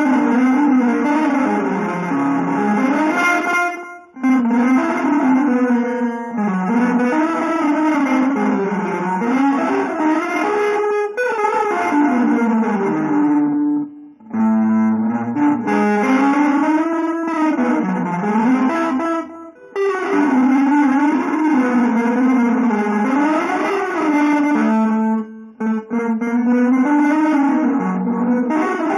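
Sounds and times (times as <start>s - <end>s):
electric guitar gliding notes: 0.0s - 28.9s.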